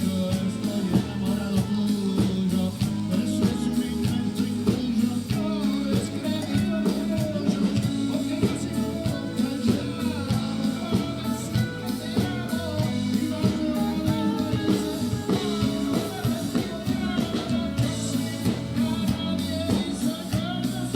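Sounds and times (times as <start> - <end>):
bass guitar: 0.0 - 20.9
drum kit: 0.0 - 20.9
electric guitar: 0.0 - 20.9
person singing: 0.0 - 20.9.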